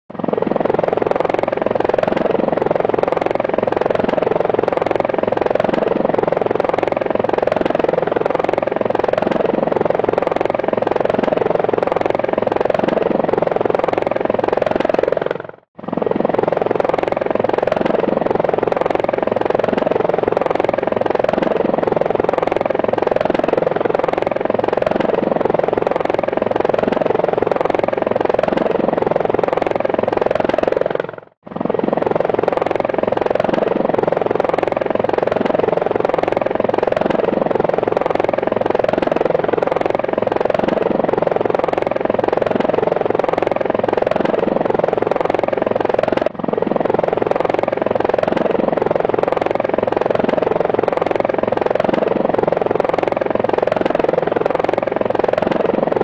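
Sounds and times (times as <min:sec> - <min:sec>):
drone propellers buzzing: 0:00.2 - 0:56.0.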